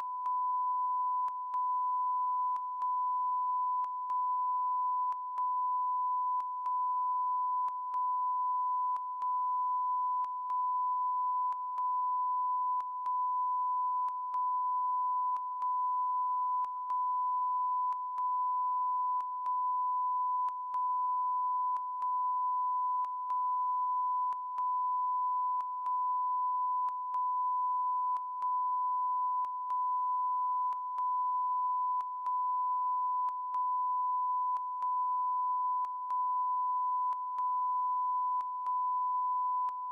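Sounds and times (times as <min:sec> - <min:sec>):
steady electronic beep tone: 0:00.0 - 0:39.9.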